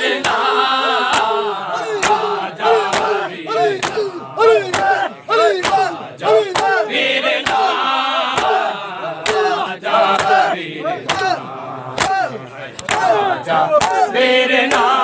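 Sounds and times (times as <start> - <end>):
men shouting and chanting: 0.0 - 15.0
hands slapping bare chests: 0.2 - 11.4, 12.0 - 13.2, 13.8 - 15.0.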